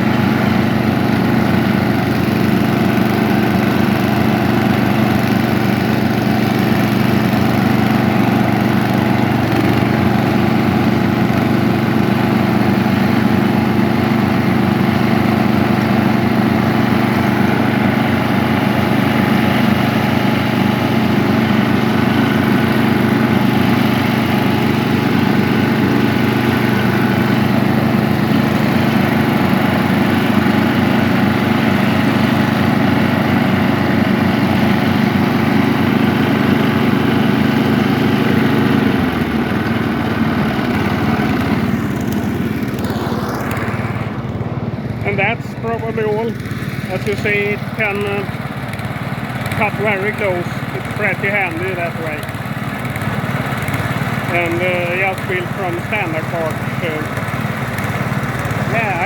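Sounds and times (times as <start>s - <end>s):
lawnmower engine running: 0.0s - 59.0s.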